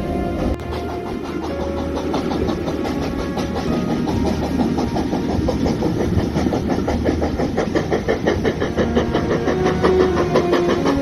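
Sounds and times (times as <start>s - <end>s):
steady tones: 0.0s - 11.0s
steam train running: 0.0s - 11.0s.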